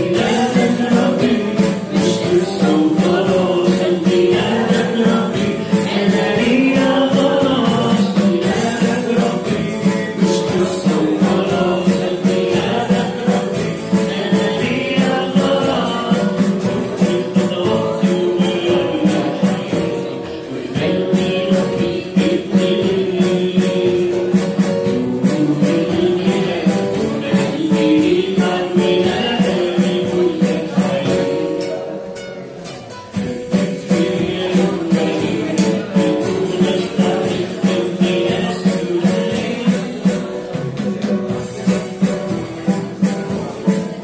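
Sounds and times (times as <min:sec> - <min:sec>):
man singing into a microphone: 0:00.0 - 0:32.5, 0:33.1 - 0:44.0
acoustic guitar: 0:00.0 - 0:44.0
keyboard: 0:00.0 - 0:44.0
percussion beat: 0:00.0 - 0:44.0.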